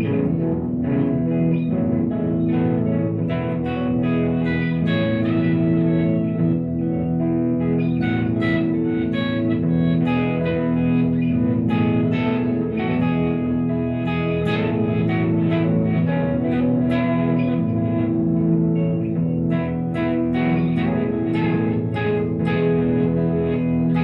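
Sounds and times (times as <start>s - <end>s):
electric guitar through amplifier: 0.0s - 24.0s.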